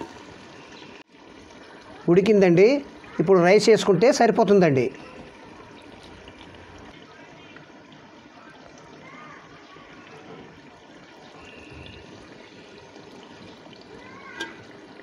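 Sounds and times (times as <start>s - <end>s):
curry bubbling in a pot: 0.0s - 15.0s.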